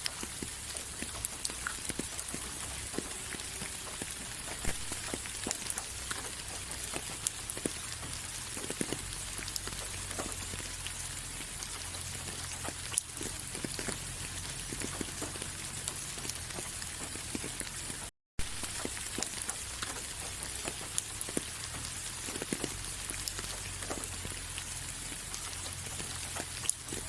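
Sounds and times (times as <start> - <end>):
rain drops ticking on a surface: 0.0 - 27.0
rain hiss: 0.0 - 27.0.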